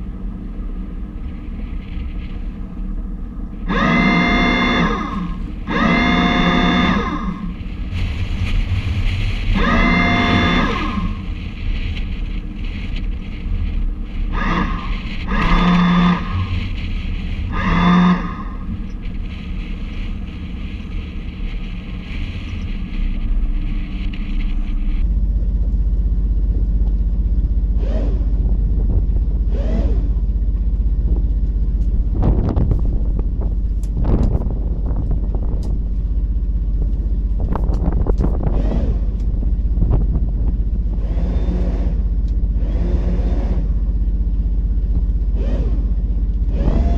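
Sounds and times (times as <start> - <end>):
motorboat low rumble: 0.0 - 46.9
wind buffeting microphone: 0.0 - 46.9.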